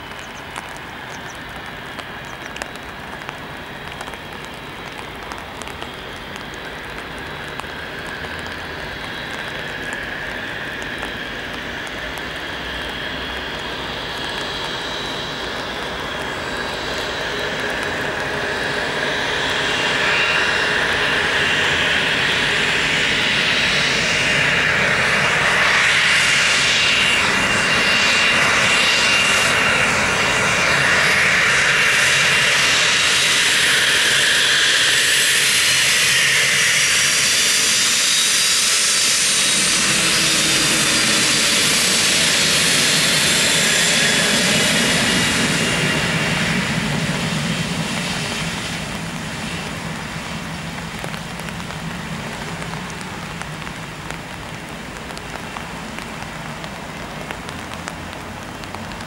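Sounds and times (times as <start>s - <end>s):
jet engines hissing and whining: 0.0s - 59.0s
jet exhaust rumble: 0.0s - 59.0s.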